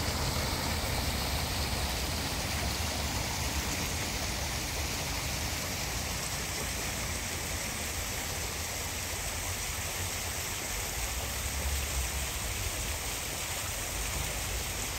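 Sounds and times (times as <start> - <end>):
fountain water splashing into basin: 0.0 - 14.9.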